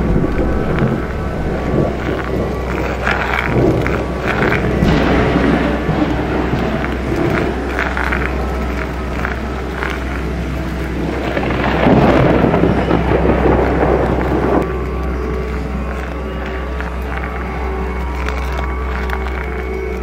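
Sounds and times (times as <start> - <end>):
faint crackles: 0.0 - 20.0
low electronic drone: 0.0 - 20.0
thunder-like rumbling: 0.0 - 20.0.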